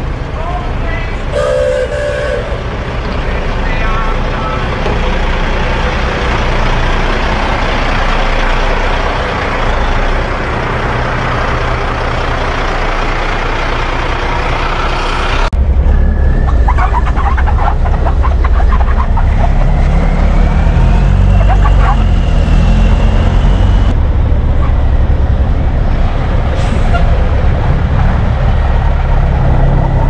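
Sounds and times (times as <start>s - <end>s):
diesel truck engines running: 0.0s - 30.0s.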